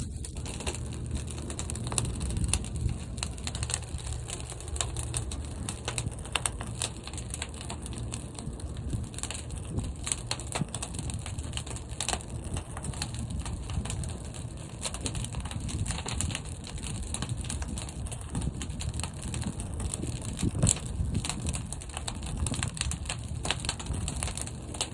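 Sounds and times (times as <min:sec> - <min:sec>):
fire crackling: 0:00.0 - 0:24.9
fire rumbling in a kiln: 0:00.0 - 0:24.9.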